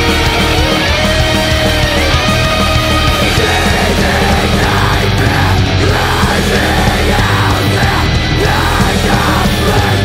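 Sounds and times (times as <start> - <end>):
loud heavy metal music: 0.0 - 10.0.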